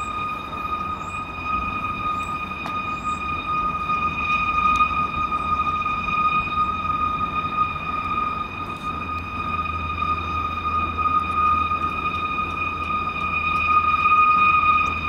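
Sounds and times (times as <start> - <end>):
high tone drone: 0.0 - 15.0.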